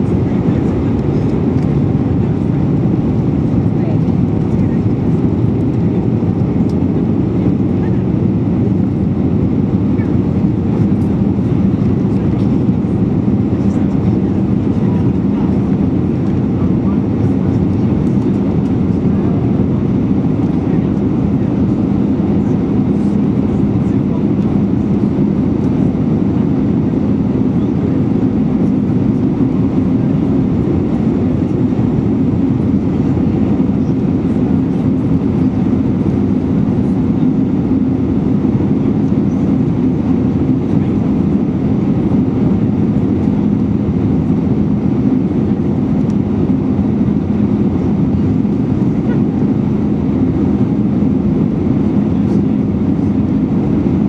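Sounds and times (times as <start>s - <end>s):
jet engines running with low hum: 0.0s - 54.0s.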